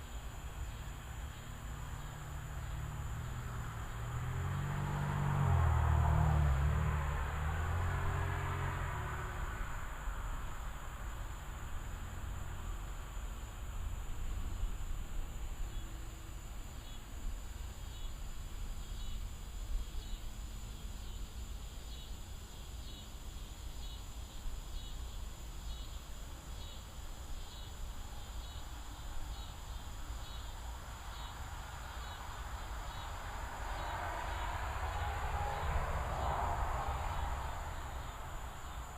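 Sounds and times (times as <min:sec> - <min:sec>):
high-pitched insect hum: 0:00.0 - 0:38.9
insects chirping: 0:00.0 - 0:38.9.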